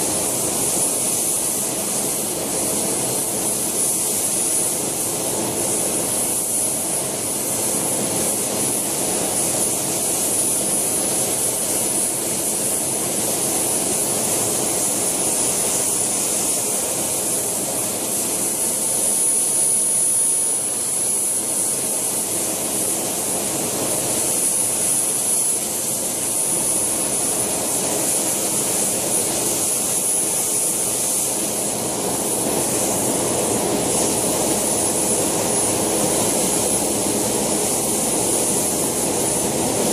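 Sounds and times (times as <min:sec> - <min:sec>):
helicopter rotor: 0:00.0 - 0:39.9
model helicopter turbine whine: 0:00.0 - 0:39.9
turbine exhaust rush: 0:00.0 - 0:39.9.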